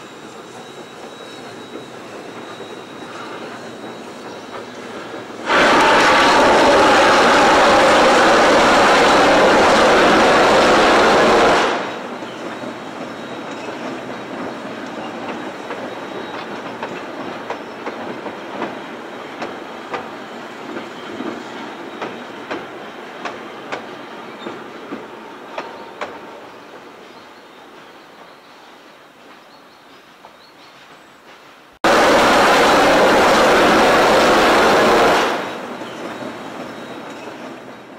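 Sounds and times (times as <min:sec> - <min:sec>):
steam locomotive rushing past: 0:00.0 - 0:29.5, 0:31.4 - 0:37.9.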